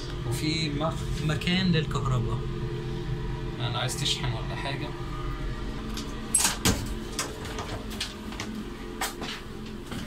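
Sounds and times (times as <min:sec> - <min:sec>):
train carriage hum: 0:00.0 - 0:10.0.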